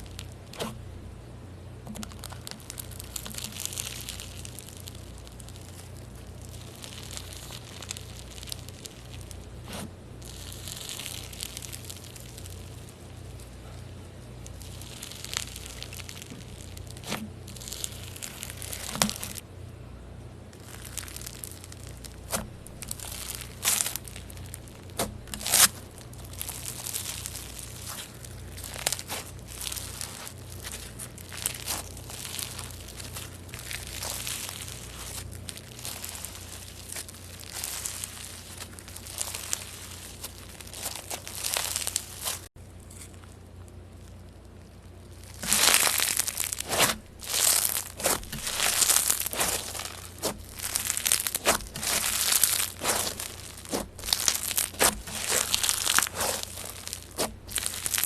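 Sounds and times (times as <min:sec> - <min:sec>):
slime crackling and popping: 0:00.0 - 0:00.8, 0:01.8 - 0:19.4, 0:20.5 - 0:58.0.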